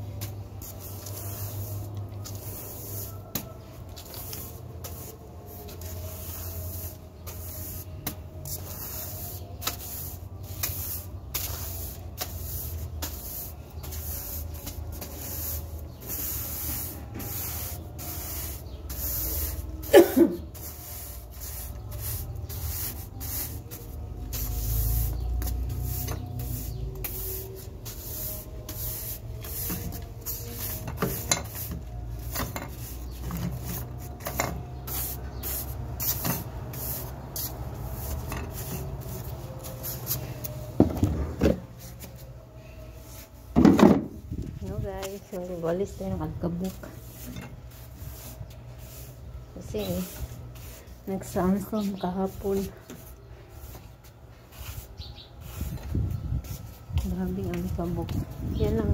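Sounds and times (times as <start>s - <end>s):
broom sweeping tiled floor: 0.0s - 58.9s.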